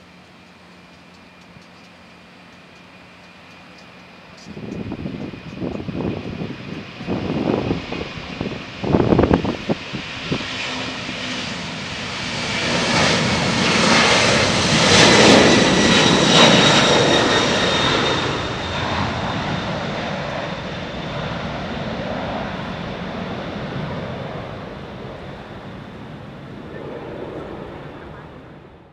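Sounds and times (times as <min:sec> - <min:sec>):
jet airliner taking off: 0:00.0 - 0:28.9.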